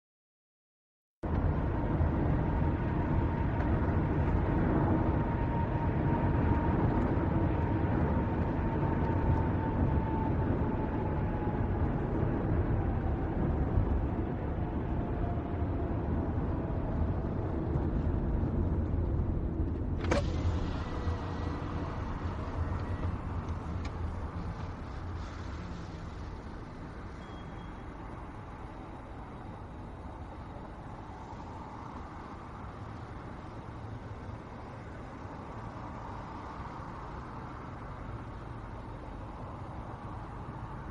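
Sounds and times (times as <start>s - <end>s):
car engine and road rumble: 1.2s - 40.9s
faint whine: 1.2s - 40.9s.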